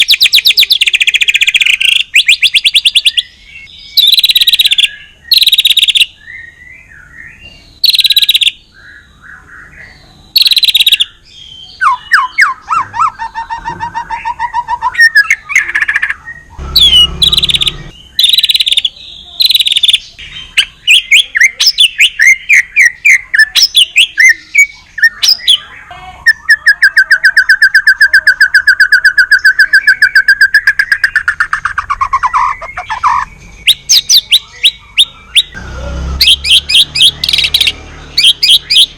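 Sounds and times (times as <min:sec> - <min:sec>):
songbird singing trills and whistles: 0:00.0 - 0:35.6, 0:36.2 - 0:38.9.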